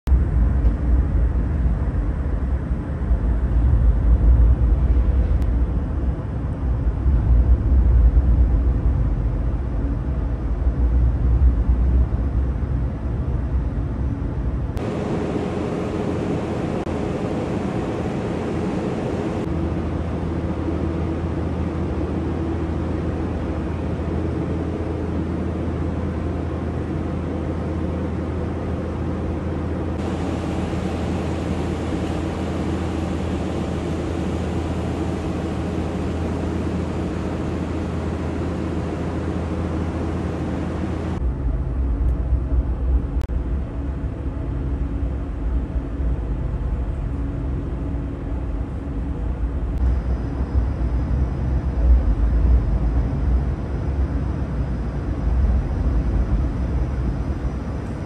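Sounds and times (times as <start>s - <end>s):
heavy low rumble: 0.0s - 58.0s
steady drone with faint hum: 0.0s - 58.0s.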